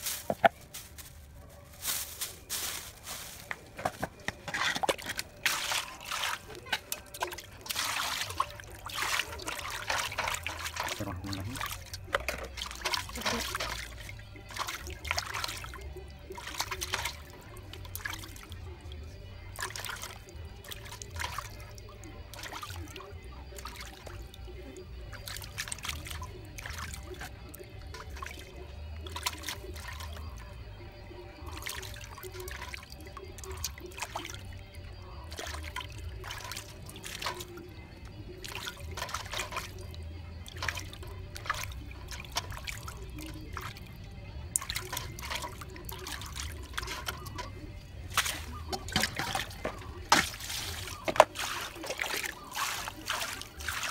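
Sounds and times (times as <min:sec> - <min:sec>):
hands washing fish in water: 0:01.8 - 0:53.9.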